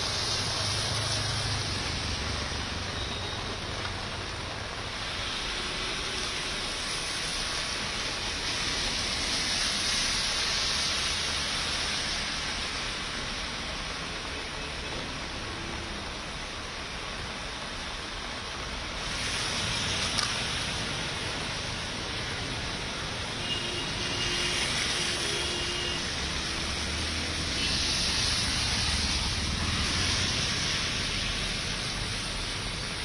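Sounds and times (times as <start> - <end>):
rain hissing: 0.0 - 33.0.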